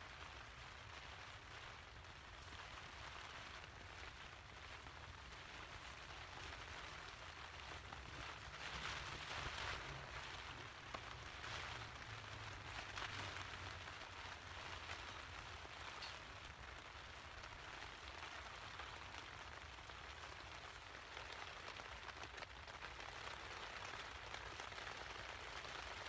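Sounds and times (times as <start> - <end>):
rain pattering on tent fabric: 0.0 - 26.0.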